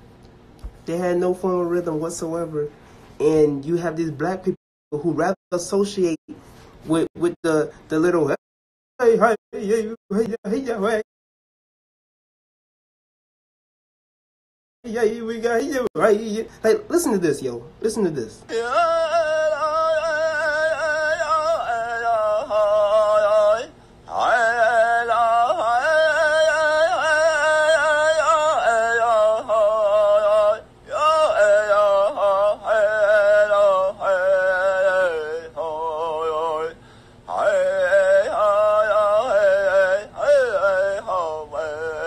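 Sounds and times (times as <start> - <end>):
man chanting: 0.9 - 6.2, 9.0 - 11.1, 14.9 - 42.0.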